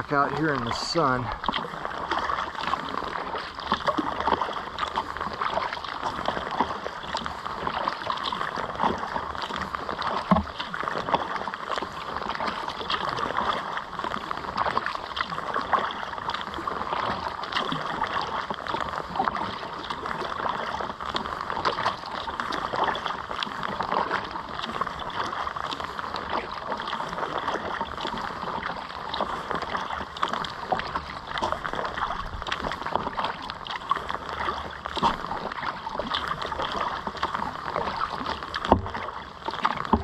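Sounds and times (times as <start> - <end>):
paddle splashing and dripping: 0.0 - 40.0
waves lapping against hull: 0.0 - 40.0.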